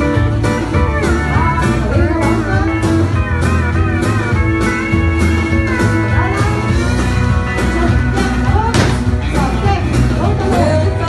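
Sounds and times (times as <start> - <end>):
pedal steel guitar: 0.0 - 11.0
steady drum beat: 0.0 - 11.0.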